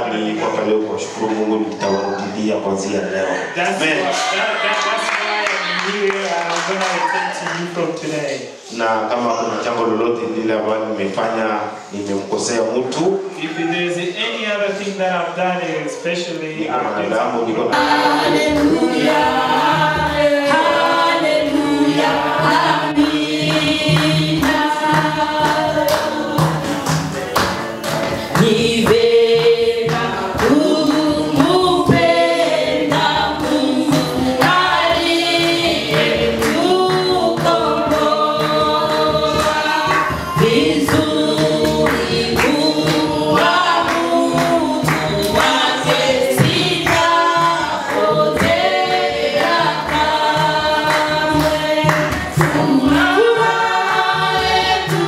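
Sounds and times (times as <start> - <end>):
choir singing gospel song: 0.0 - 15.7, 16.6 - 55.0.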